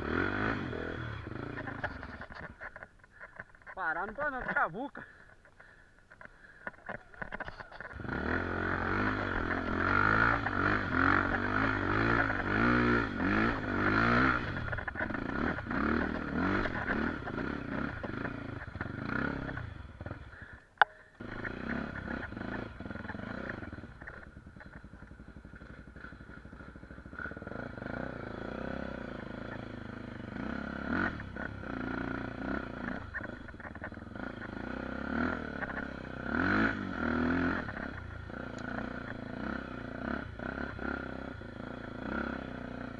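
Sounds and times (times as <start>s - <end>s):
motorcycle engine revving: 0.0s - 5.8s, 6.4s - 42.9s.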